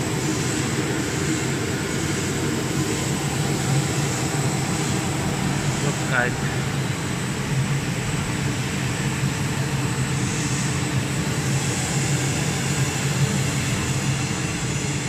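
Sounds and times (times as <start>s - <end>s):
printing machine humming: 0.0s - 15.0s.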